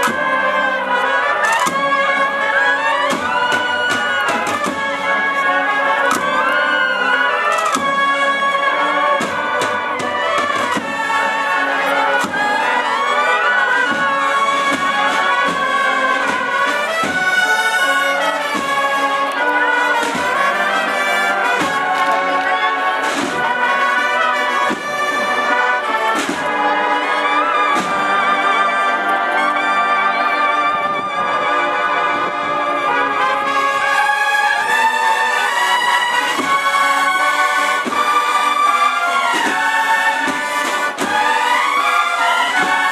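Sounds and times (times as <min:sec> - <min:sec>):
cornets playing a march melody: 0:00.0 - 0:42.9.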